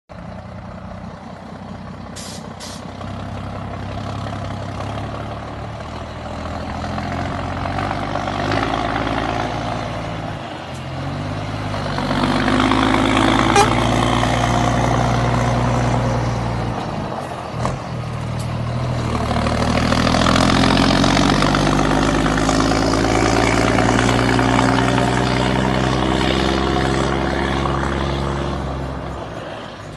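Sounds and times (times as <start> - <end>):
truck engine revving through gears: 0.3 - 29.9.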